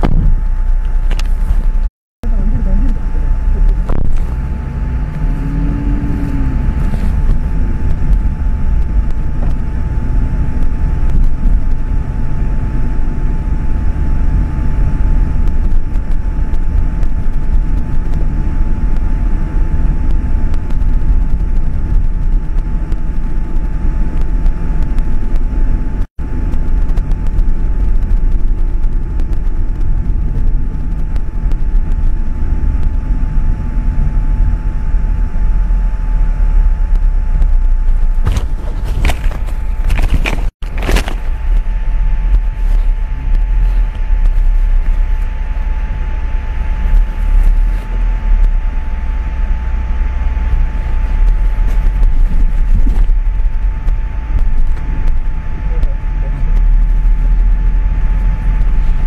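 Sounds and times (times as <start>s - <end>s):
cars driving on asphalt: 0.0s - 59.0s.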